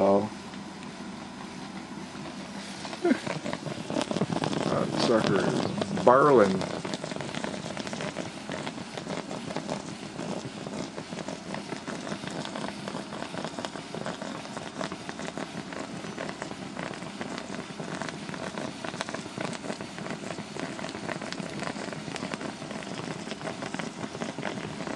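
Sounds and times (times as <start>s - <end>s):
water boiling with crackle: 0.0s - 24.9s.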